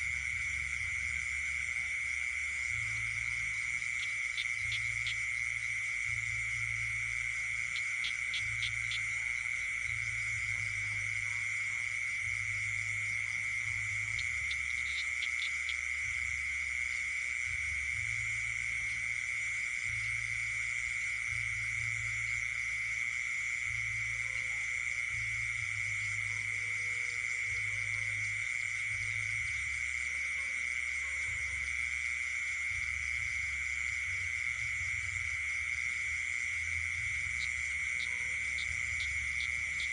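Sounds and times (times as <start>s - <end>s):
frogs trilling: 0.0s - 39.9s
insects buzzing: 0.0s - 39.9s.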